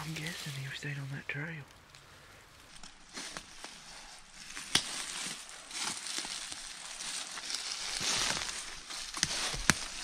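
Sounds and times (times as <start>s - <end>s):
footsteps crunching through dry leaves: 0.0s - 1.0s, 2.6s - 10.0s.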